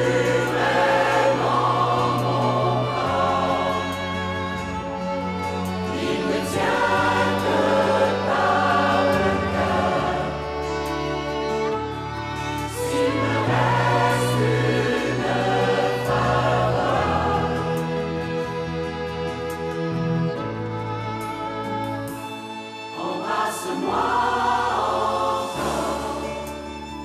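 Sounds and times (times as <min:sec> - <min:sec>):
mixed choir singing: 0:00.0 - 0:18.8, 0:22.7 - 0:27.0
string ensemble: 0:00.0 - 0:27.0.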